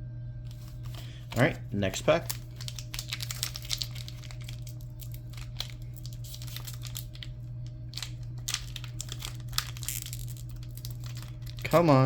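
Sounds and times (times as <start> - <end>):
low electrical hum: 0.0 - 12.0
foil wrapper crinkling: 0.5 - 12.0.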